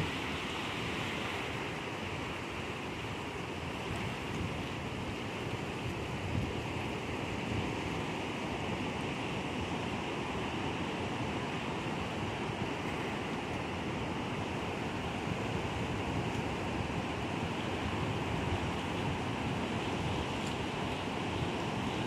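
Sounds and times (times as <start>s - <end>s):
ocean surf on rocks: 0.0s - 22.0s
wind: 0.0s - 22.0s.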